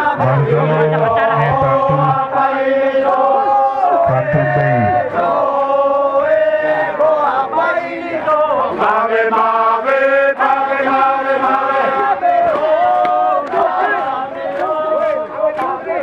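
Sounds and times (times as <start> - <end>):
men chanting with held notes: 0.0 - 16.0.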